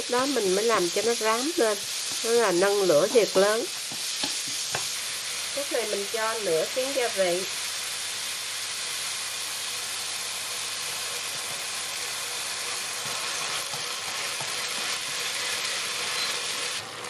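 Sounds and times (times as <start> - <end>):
meat sizzling in a wok: 0.0 - 17.0
sauce frying: 0.0 - 17.0.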